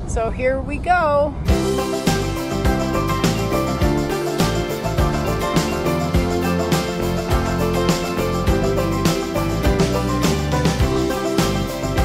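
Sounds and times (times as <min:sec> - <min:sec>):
background music with steady beat: 0:01.5 - 0:12.0.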